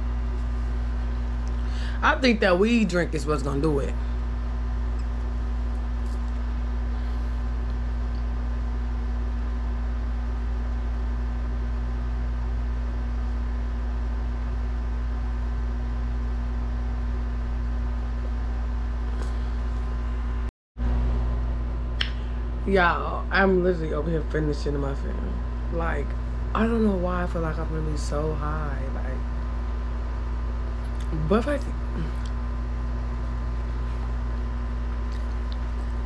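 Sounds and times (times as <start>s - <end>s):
machine hum with deep rumble: 0.0s - 36.0s.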